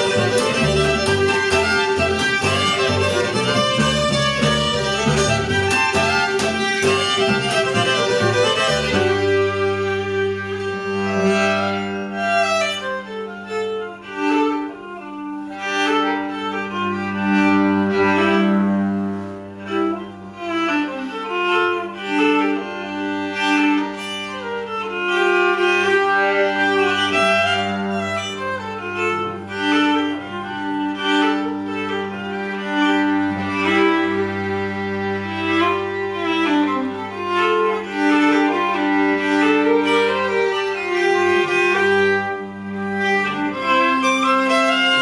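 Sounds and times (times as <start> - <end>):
bowed string drone: 0.0 - 45.0
fiddle melody: 0.0 - 45.0.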